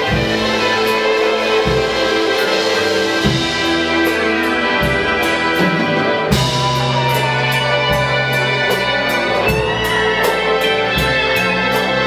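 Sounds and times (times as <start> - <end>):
drum kit with cymbals: 0.0 - 12.0
electric bass: 0.0 - 12.0
electric guitars: 0.0 - 12.0.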